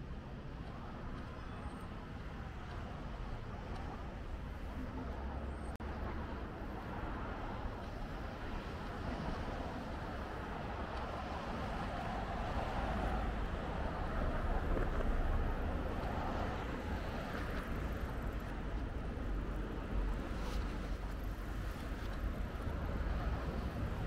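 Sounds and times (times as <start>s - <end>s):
reversed road noise: 0.0s - 24.0s.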